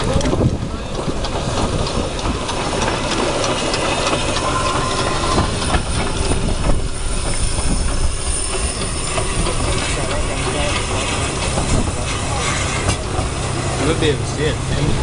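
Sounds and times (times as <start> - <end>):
steam train rumbling past: 0.0 - 15.0
wheels clicking on rails: 0.0 - 15.0.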